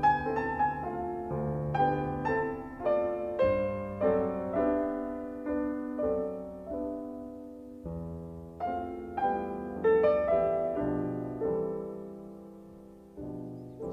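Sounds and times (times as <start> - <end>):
slow piano melody: 0.0 - 13.9.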